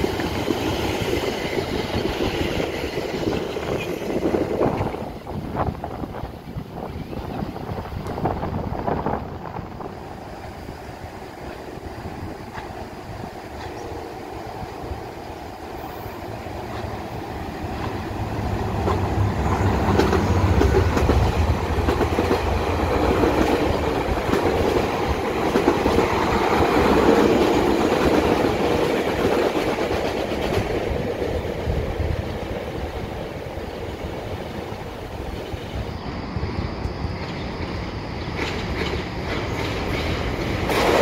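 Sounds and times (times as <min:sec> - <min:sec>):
train wheels rumbling and clattering: 0:00.0 - 0:41.0.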